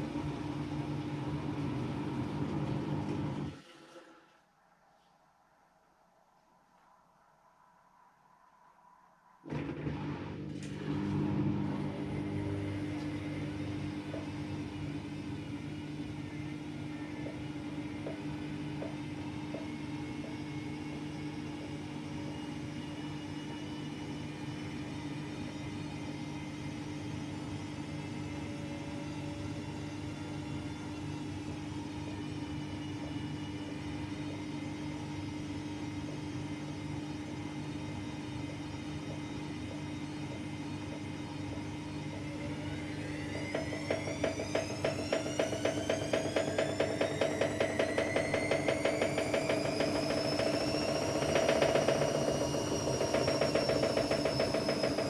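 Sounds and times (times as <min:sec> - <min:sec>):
washer-dryer motor hum: 0:00.0 - 0:04.0, 0:09.5 - 0:55.0.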